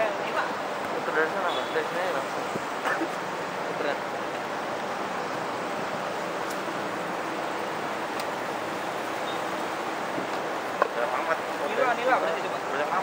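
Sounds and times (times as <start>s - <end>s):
busy road traffic hiss: 0.0s - 13.0s.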